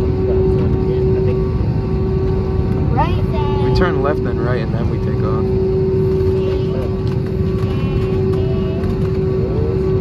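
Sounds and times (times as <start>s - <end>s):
aircraft engine rumble: 0.0s - 10.0s
steady cabin hum: 0.0s - 10.0s.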